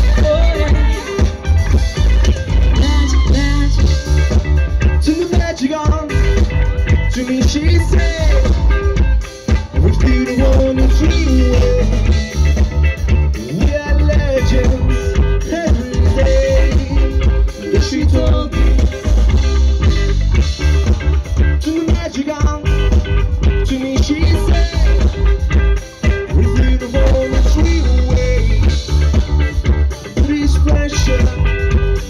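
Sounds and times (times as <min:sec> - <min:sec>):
person singing at microphone: 0:00.0 - 0:01.8, 0:02.5 - 0:20.2, 0:21.4 - 0:32.0
drum kit: 0:00.0 - 0:32.0
electric guitars: 0:00.0 - 0:32.0.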